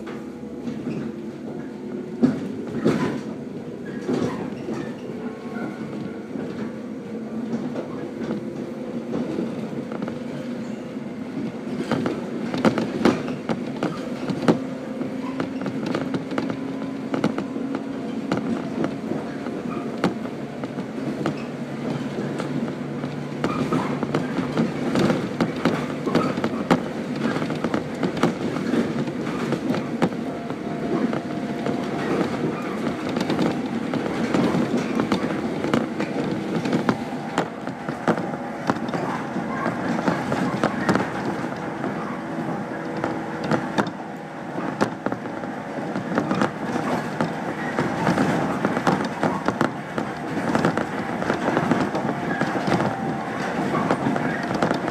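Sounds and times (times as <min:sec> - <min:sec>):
train running gear hum: 0:00.0 - 0:54.9
wheels clicking over rail joints: 0:00.0 - 0:54.9.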